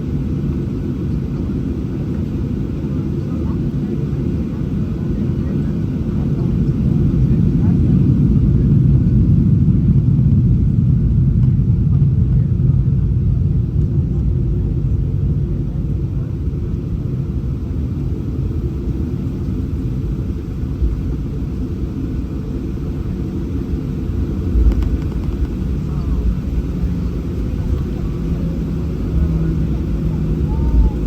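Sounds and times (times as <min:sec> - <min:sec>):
jet engines rumbling inside cabin: 0:00.0 - 0:31.0.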